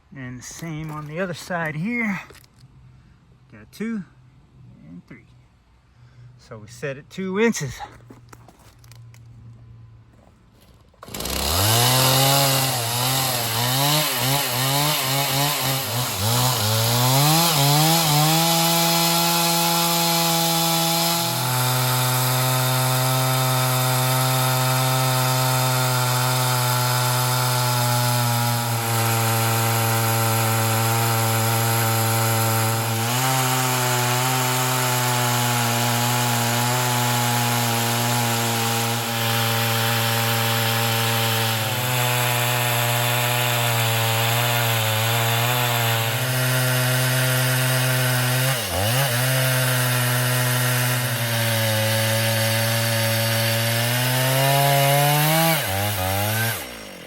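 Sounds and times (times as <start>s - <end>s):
chainsaw revving and cutting: 0.4s - 2.5s, 11.0s - 57.0s.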